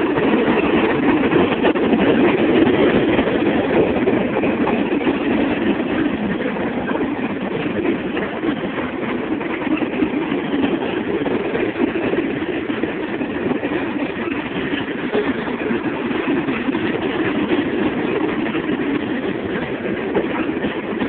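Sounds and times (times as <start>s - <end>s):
freight train rumbling and rattling: 0.0s - 21.0s.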